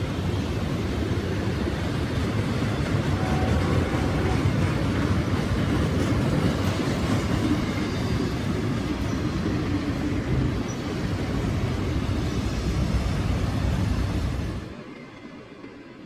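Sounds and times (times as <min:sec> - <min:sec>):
freight train wheels on rails: 0:00.0 - 0:16.0.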